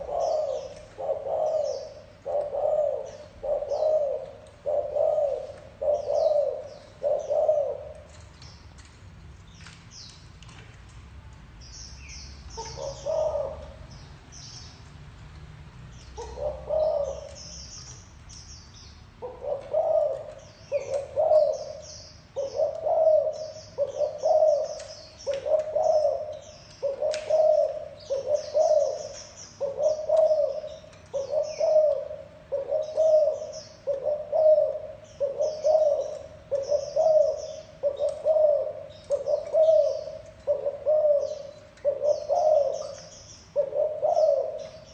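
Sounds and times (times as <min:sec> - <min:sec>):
dove cooing: 0:00.0 - 0:08.6, 0:12.1 - 0:14.6, 0:16.1 - 0:17.9, 0:19.2 - 0:44.9
small birds chirping faintly: 0:00.0 - 0:44.9.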